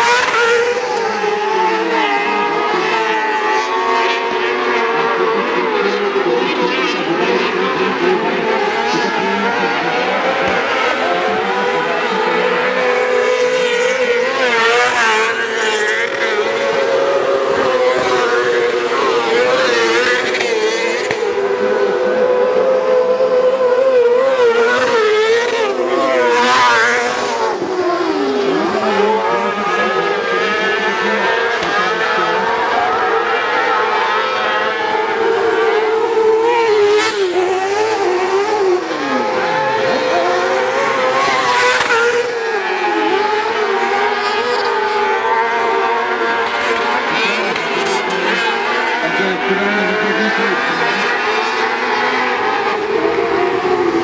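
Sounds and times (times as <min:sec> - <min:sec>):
buggy engines revving: 0:00.0 - 0:54.0.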